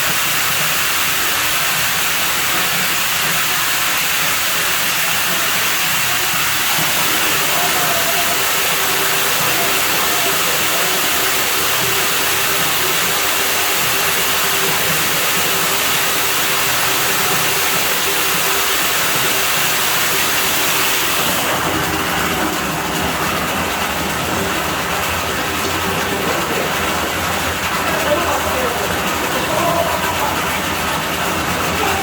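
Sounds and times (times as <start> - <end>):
water rushing with hiss: 0.0 - 32.0.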